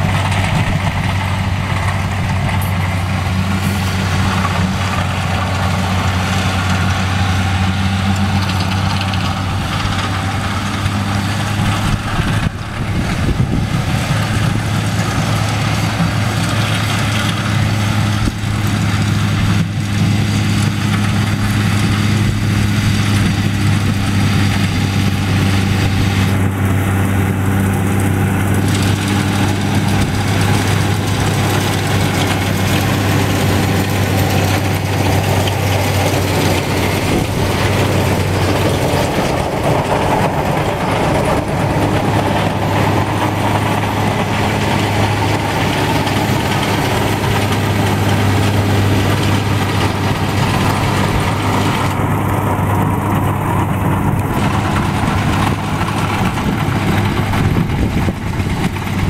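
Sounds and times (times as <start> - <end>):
baler machinery running: 0.0 - 59.0
tractor diesel engine running: 0.0 - 59.0.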